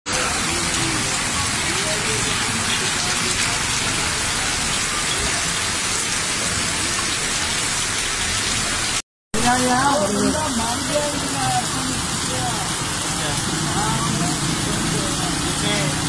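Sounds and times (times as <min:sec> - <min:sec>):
heavy rain on pavement: 0:00.1 - 0:16.0.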